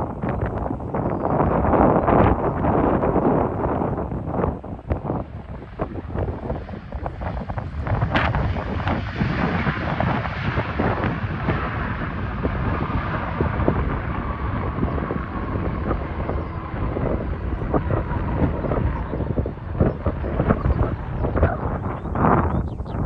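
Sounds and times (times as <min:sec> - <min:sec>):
jet engine rumble: 0:00.0 - 0:23.0
wind buffeting microphone: 0:00.0 - 0:23.0.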